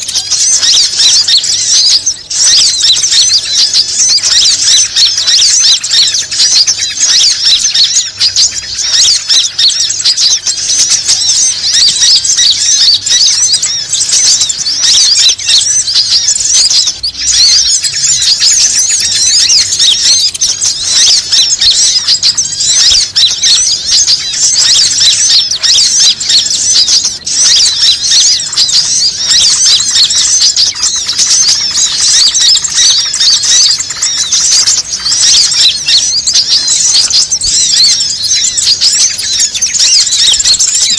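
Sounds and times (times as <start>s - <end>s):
small birds chirping chorus: 0.0s - 40.9s.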